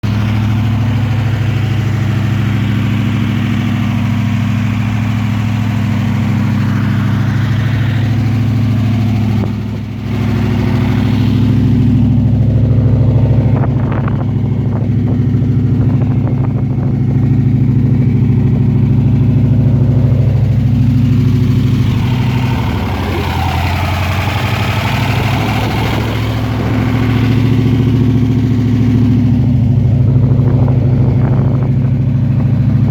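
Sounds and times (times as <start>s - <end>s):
car engine idling with misfire: 0.0s - 32.9s.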